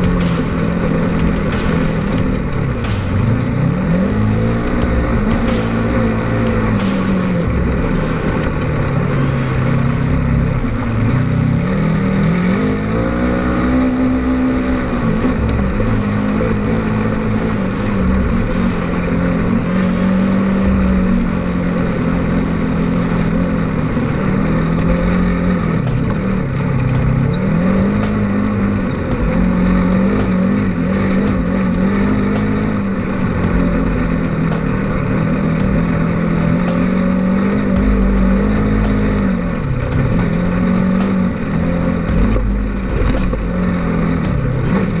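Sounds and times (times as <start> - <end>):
engine revving under load: 0.0 - 45.0.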